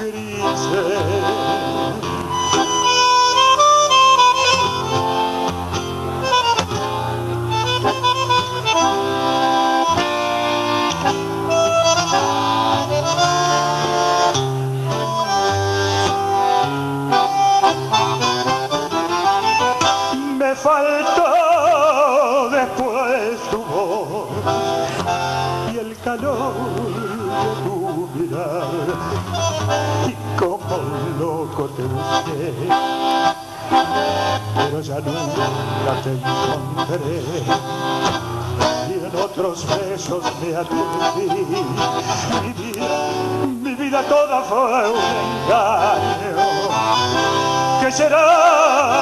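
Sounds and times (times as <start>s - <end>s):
reedy accordion lead: 0.0s - 49.0s
tango band playing: 0.0s - 49.0s.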